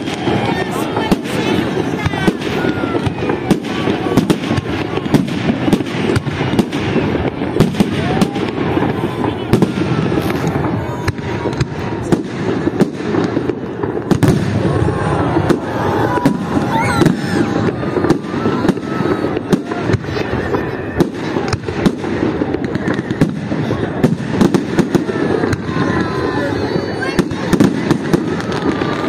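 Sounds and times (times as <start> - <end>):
fireworks bursting: 0.0 - 29.0
steady background din: 0.0 - 29.0.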